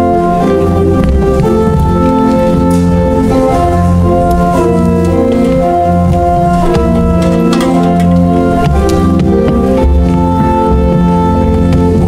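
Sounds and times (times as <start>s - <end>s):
organ playing slow chords: 0.0s - 12.0s.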